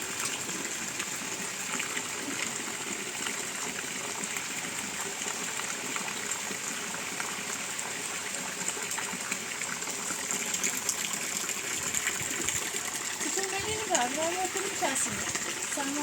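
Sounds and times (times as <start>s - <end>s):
water running and trickling: 0.0s - 16.0s.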